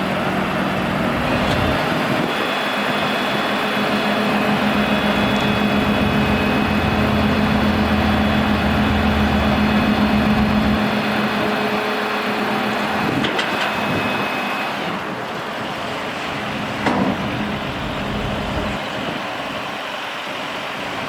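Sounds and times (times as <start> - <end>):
truck engine humming: 0.0 - 21.0.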